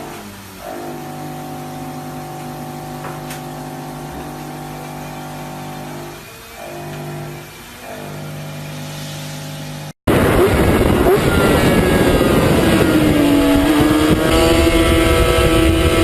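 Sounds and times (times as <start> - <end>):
vehicle engine at high revs: 0.0 - 16.0.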